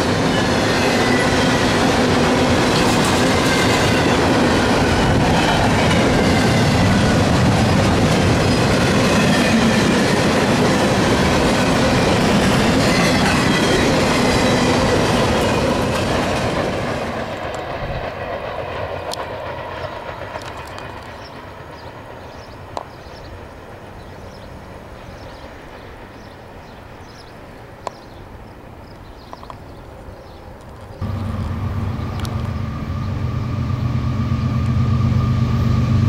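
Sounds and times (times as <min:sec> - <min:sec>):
freight train cars rolling past: 0:00.0 - 0:36.0.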